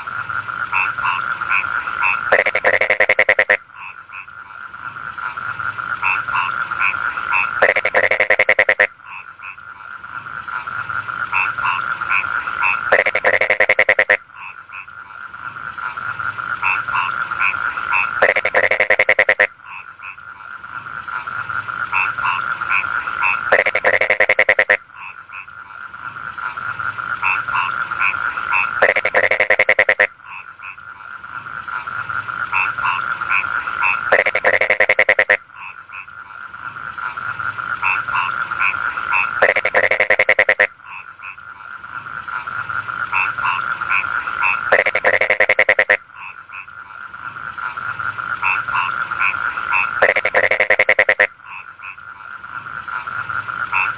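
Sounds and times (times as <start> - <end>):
frog chorus croaking: 0.0 - 53.9
frog rapid pulsing call: 0.0 - 53.9.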